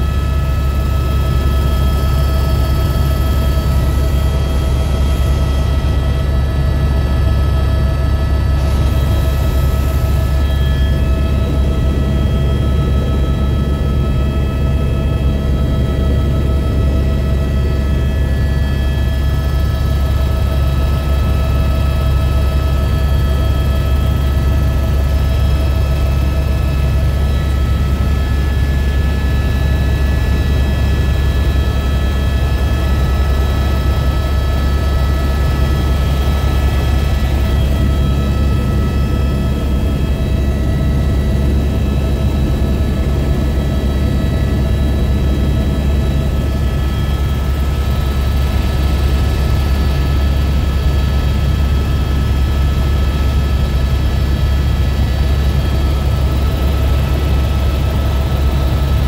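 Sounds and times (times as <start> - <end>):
helicopter rotor and engine drone: 0.0 - 59.0
steady high whine: 0.0 - 59.0.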